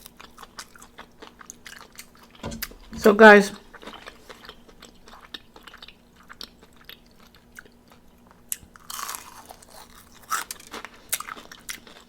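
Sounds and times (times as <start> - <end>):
chewing crispy chicken: 0.0 - 2.4, 3.2 - 12.0.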